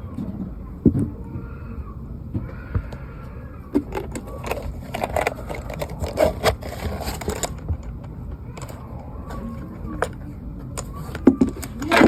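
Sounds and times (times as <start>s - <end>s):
objects being handled: 2.3s - 12.0s.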